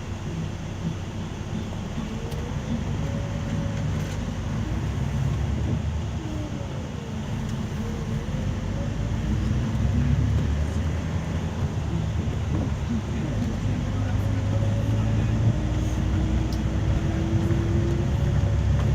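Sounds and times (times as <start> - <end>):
diesel engine rumble: 0.0 - 18.9
road noise: 0.0 - 18.9.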